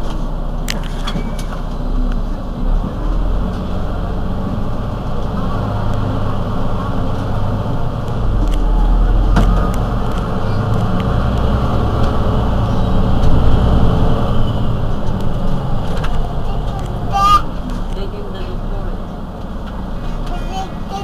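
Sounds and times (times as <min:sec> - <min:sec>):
diesel bus engine idling: 0:00.0 - 0:21.0.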